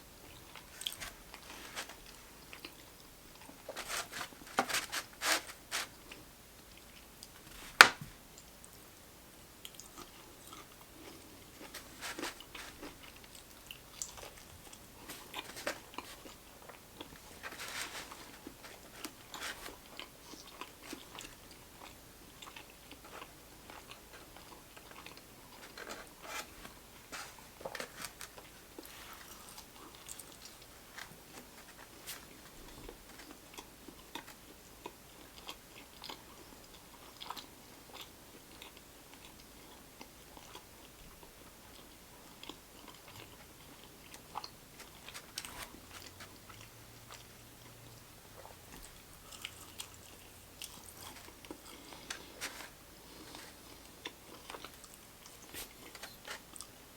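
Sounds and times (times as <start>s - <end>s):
person chewing crunchy food: 0.2s - 7.3s, 9.6s - 47.8s, 48.4s - 56.8s.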